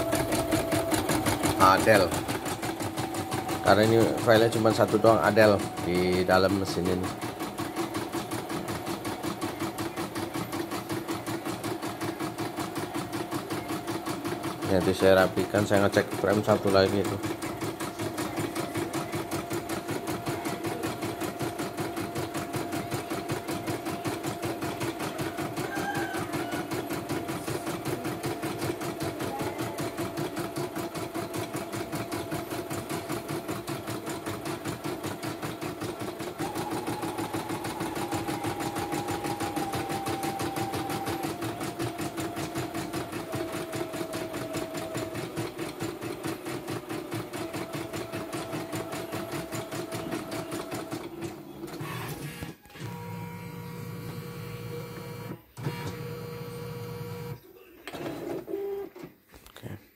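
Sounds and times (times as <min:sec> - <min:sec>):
embroidery machine stitching: 0:00.0 - 0:58.7.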